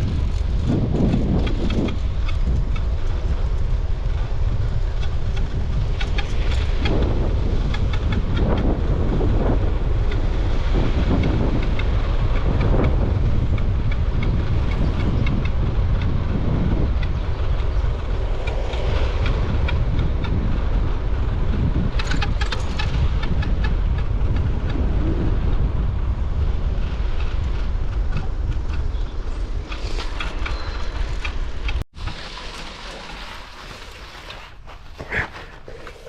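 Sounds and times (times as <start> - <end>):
bicycle rolling noise: 0.0 - 36.0
wind rumble on microphone: 0.0 - 36.0.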